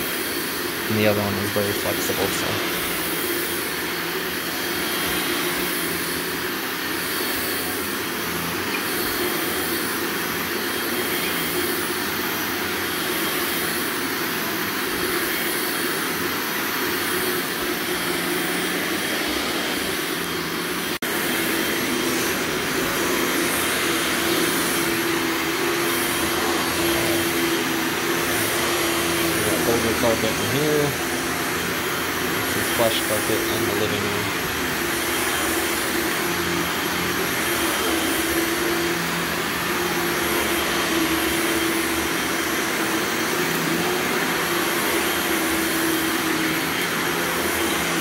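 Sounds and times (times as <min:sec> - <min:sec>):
carpet cleaning machine humming: 0:00.0 - 0:48.0.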